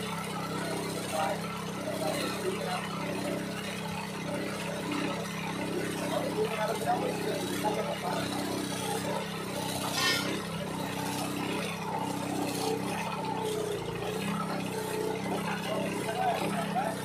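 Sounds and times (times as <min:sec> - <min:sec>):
rail-cutting machine engine running: 0:00.0 - 0:17.0.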